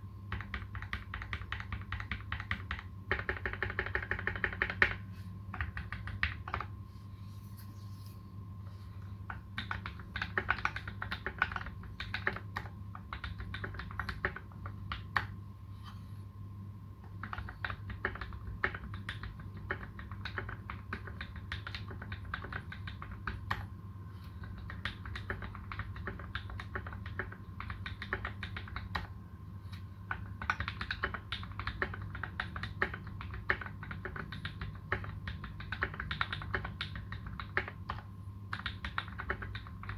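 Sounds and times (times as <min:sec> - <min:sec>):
typing on mechanical keyboard: 0:00.3 - 0:06.7, 0:09.3 - 0:15.4, 0:17.0 - 0:23.7, 0:24.4 - 0:29.1, 0:30.1 - 0:39.9.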